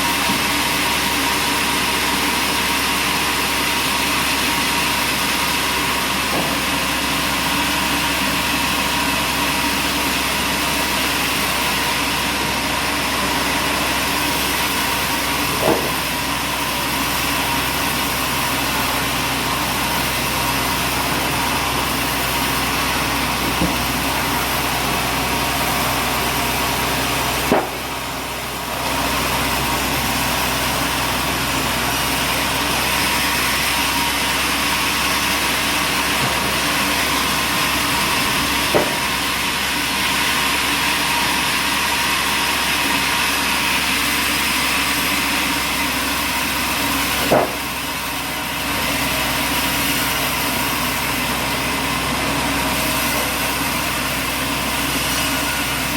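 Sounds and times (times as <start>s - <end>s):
machinery running: 0.0s - 55.9s.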